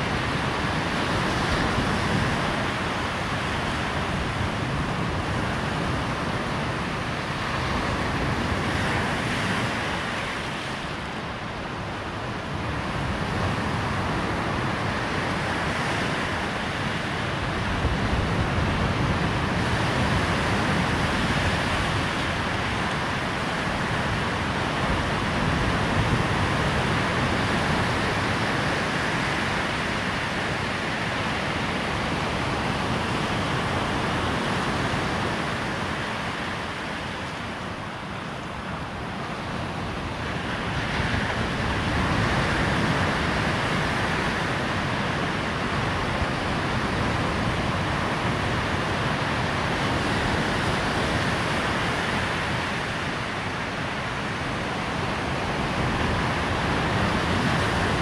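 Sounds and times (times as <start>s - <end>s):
surf rushing on beach: 0.0s - 58.0s.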